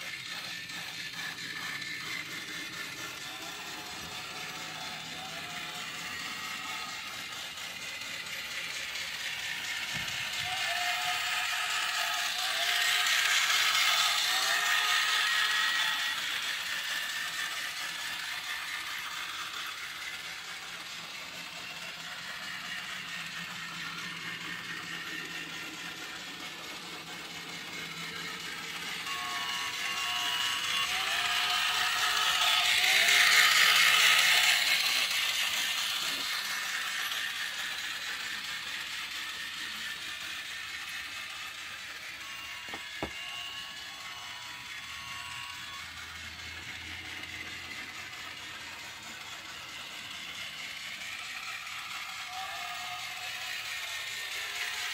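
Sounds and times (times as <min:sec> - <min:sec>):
toy train motor clattering: 0:00.0 - 0:54.9.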